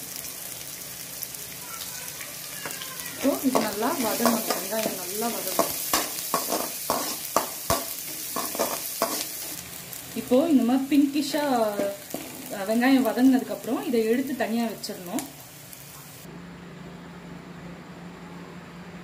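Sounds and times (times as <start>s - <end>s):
food sizzling in hot oil: 0.0s - 16.3s.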